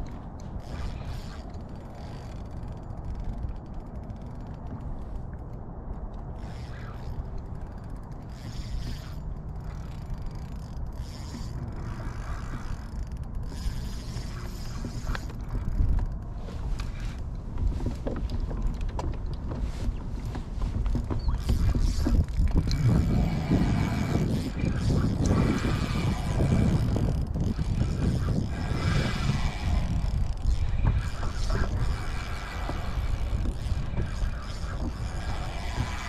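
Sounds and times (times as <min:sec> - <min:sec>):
kayak gear clicks and creaks: 0:00.0 - 0:36.0
water lapping against kayak hull: 0:00.0 - 0:36.0
wind buffeting microphone: 0:00.0 - 0:36.0.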